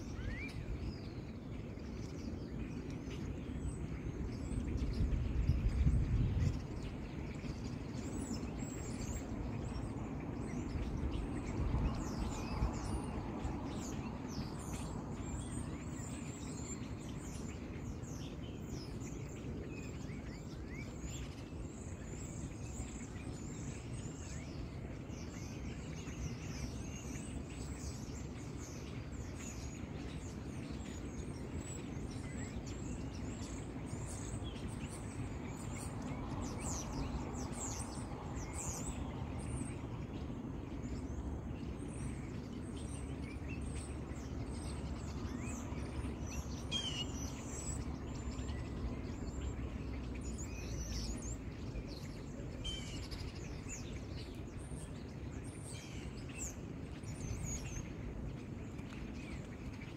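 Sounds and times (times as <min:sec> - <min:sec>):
low background rumble: 0:00.0 - 0:59.9
small birds chirping: 0:00.0 - 0:59.9.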